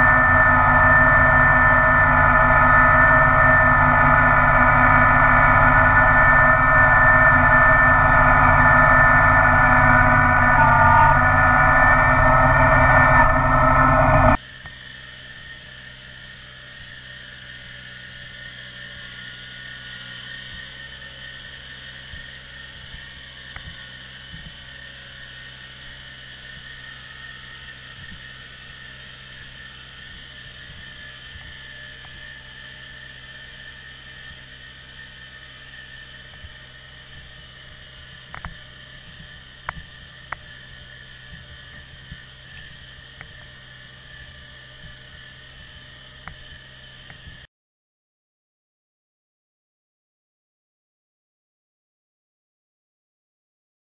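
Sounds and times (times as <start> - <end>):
tractor diesel engine running: 0.0 - 47.5.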